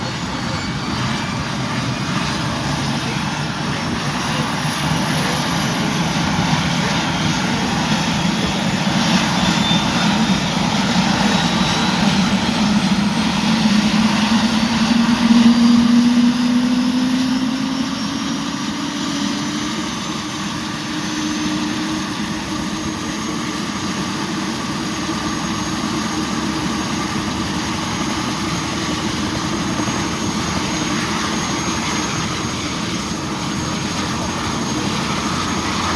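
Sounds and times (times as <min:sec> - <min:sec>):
helicopter flying by: 0:00.0 - 0:35.9.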